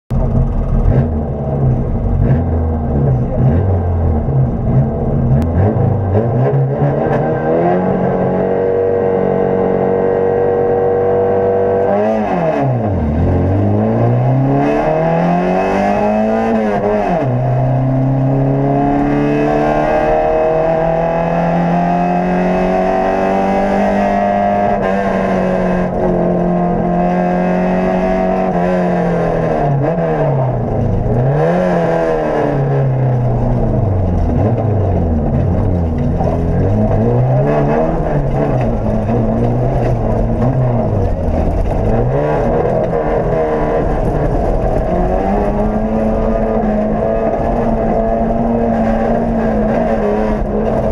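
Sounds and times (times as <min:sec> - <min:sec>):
car engine revving hard: 0:00.2 - 0:50.9.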